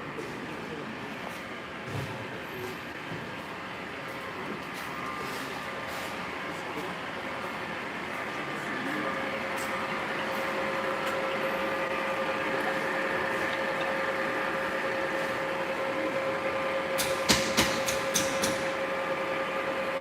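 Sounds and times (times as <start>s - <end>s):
machine humming and whining: 0.0s - 20.0s.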